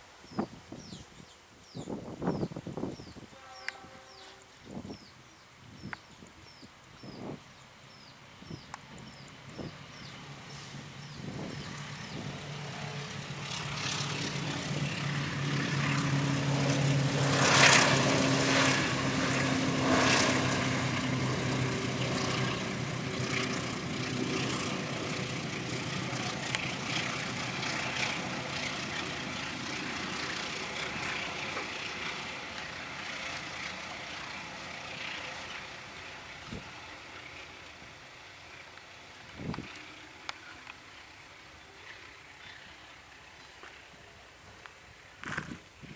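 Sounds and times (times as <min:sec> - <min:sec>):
locomotive engine drone: 0:07.0 - 0:45.2.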